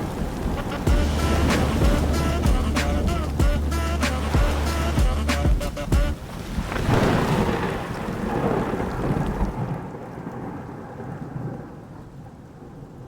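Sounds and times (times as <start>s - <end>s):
rain: 0.0s - 13.0s
thunder rumbling: 0.0s - 13.0s.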